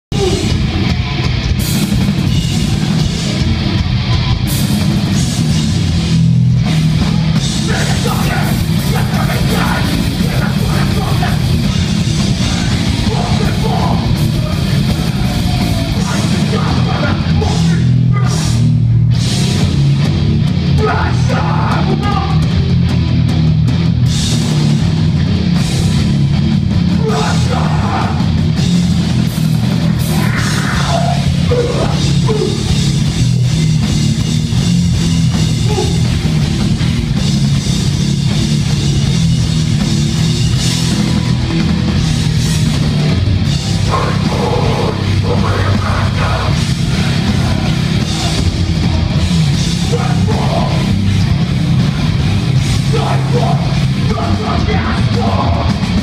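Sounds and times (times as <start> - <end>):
hardcore band playing live: 0.0 - 56.0.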